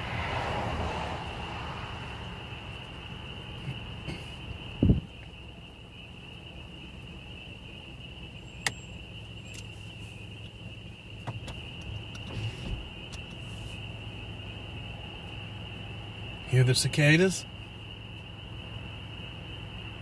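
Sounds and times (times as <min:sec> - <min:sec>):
car road hum: 0:00.0 - 0:20.0
cicadas chorus: 0:00.0 - 0:20.0.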